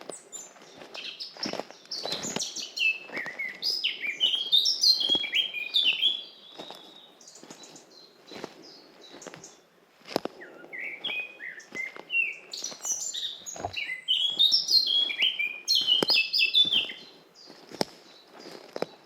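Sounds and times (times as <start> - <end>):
footsteps on forest path: 0.0 - 19.0
songbird chirping: 0.0 - 19.0.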